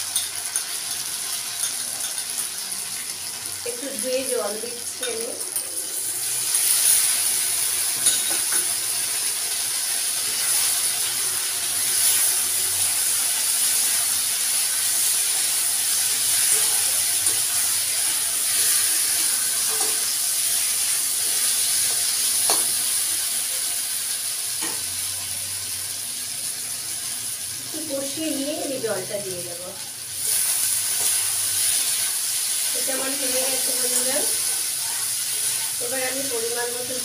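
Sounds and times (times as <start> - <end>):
food sizzling in hot oil: 0.0 - 37.0.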